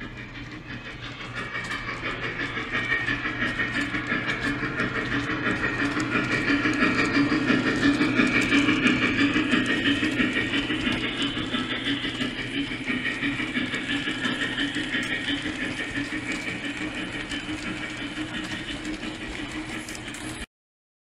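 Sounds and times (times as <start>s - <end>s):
model train motor hum: 0.0s - 20.5s
wheels clattering over rails: 0.0s - 20.5s.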